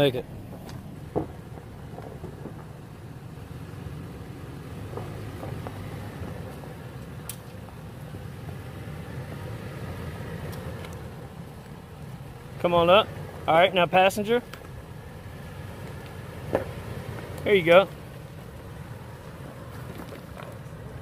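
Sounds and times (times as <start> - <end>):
suv engine running at low revs: 0.0 - 21.0.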